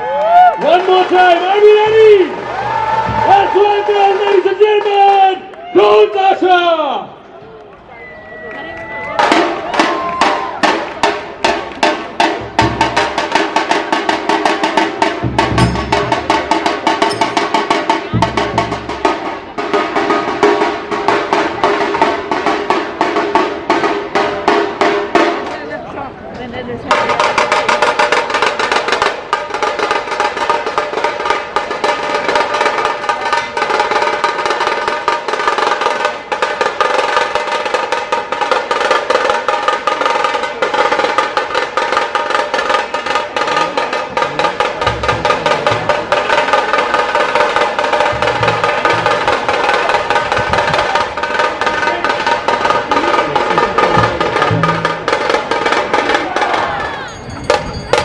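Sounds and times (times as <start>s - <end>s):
drum ensemble playing fast: 0.6s - 5.3s, 9.2s - 25.8s, 26.8s - 58.0s
deep drum beats: 1.4s - 5.2s, 9.2s - 25.5s, 26.9s - 58.0s.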